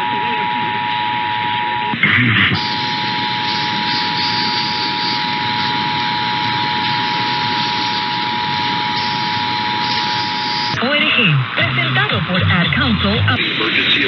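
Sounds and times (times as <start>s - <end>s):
heavy broadcast hiss: 0.0s - 14.0s.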